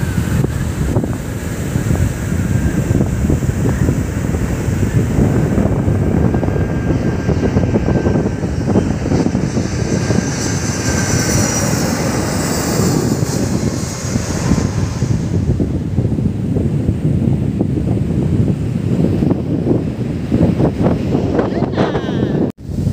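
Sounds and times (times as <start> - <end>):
airliner engine whine: 0.0 - 22.9
wind rumble on microphone: 0.0 - 22.9.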